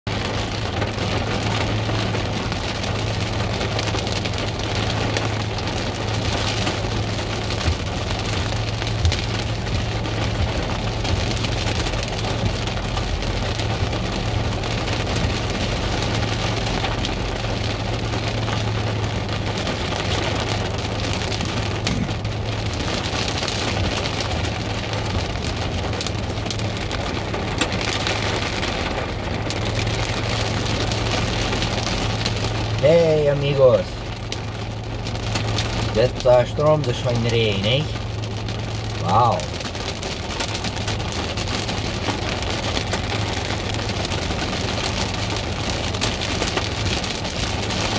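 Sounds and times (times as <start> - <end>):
heavy rain on car roof: 0.0 - 47.9.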